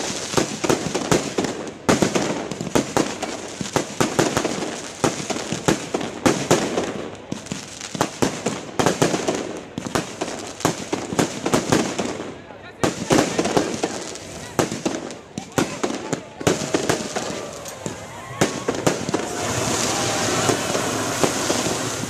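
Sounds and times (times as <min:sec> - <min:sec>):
fireworks crackling pops: 0:00.0 - 0:22.0
loud firework bursts: 0:00.0 - 0:22.0.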